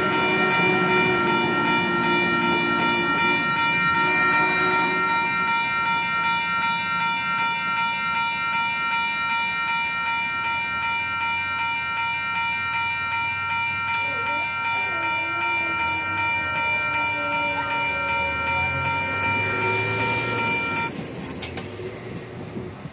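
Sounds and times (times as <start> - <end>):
crossing warning bell ringing: 0.0 - 21.7
train rumbling faintly: 0.0 - 22.9.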